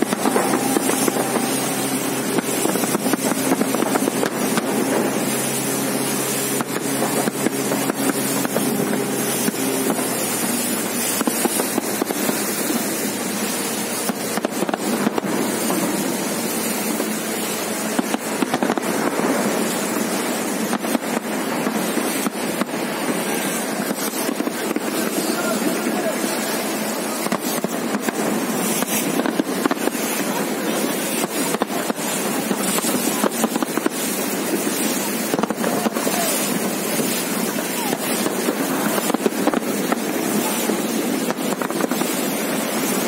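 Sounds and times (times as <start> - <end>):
fireworks bangs: 0.0 - 43.0
motorboat engine running: 0.0 - 43.0
water: 0.0 - 43.0
wind: 0.0 - 43.0.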